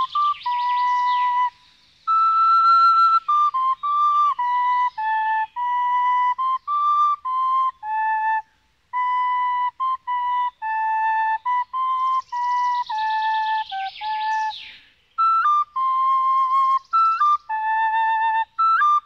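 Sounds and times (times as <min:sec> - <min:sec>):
slow flute-like melody: 0:00.0 - 0:19.0.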